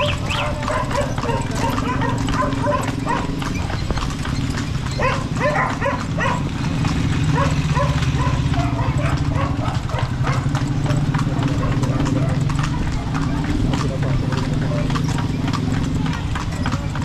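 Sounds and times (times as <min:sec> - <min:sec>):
horse hooves clip-clopping on street: 0:00.0 - 0:17.0.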